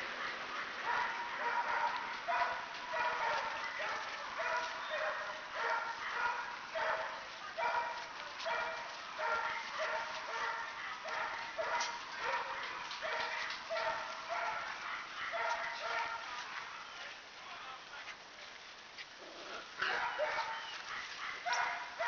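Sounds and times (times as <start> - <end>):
puppy barking: 0.2 - 16.9, 19.8 - 22.0.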